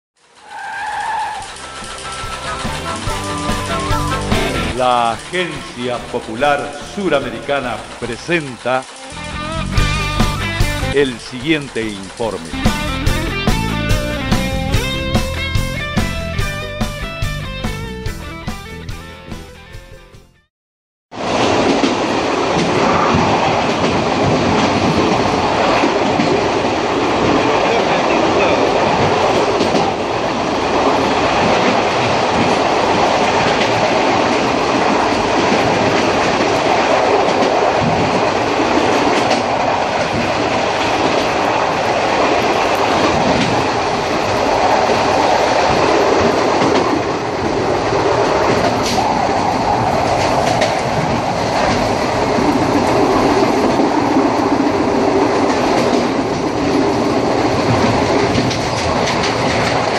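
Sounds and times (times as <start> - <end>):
train running inside carriage: 0.2 - 18.0, 21.2 - 59.9.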